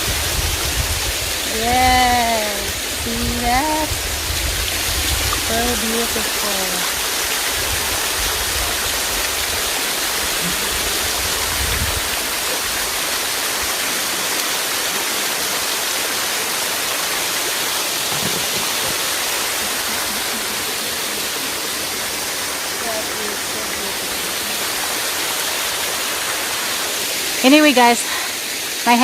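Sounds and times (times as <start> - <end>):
small waterfall rushing: 0.0 - 29.0.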